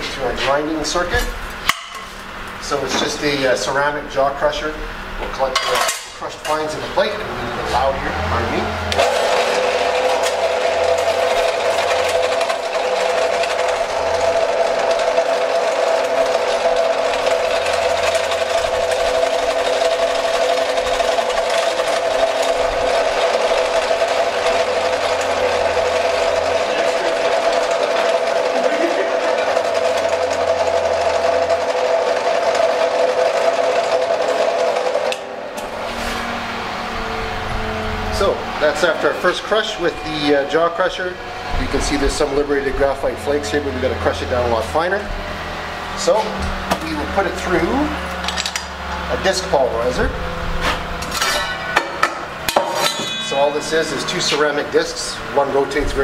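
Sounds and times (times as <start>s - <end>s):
two-note motor hum: 0.0s - 56.0s
grinding rattle of rock crushing: 5.3s - 36.4s, 37.0s - 56.0s.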